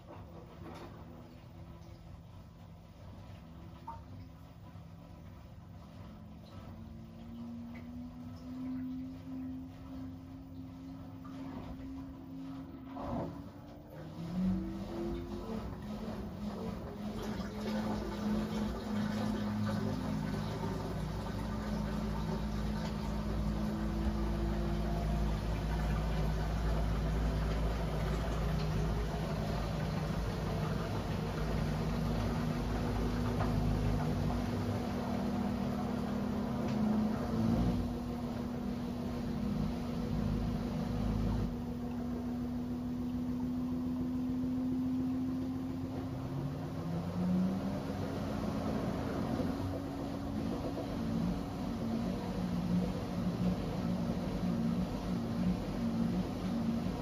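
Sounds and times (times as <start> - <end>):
washing machine motor hum and whine: 0.0 - 57.0
low rumble of spinning drum: 4.5 - 57.0.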